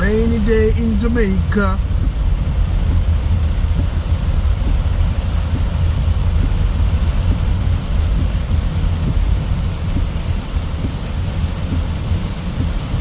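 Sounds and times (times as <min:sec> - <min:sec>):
deep rumble: 0:00.0 - 0:13.0
heavy rain hissing: 0:00.0 - 0:13.0.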